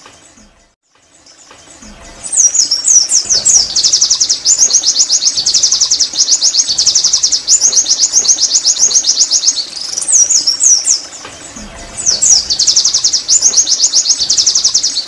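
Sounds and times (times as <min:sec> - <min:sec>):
bird singing high trill: 0:00.0 - 0:15.0.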